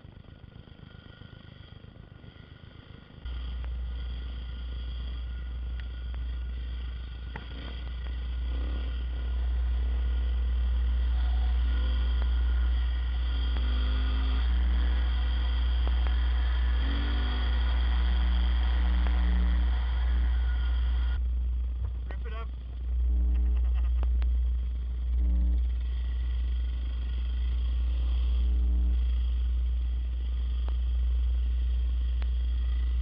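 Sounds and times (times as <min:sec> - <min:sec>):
dirt bike engine revving: 0:00.6 - 0:21.2, 0:24.9 - 0:33.0.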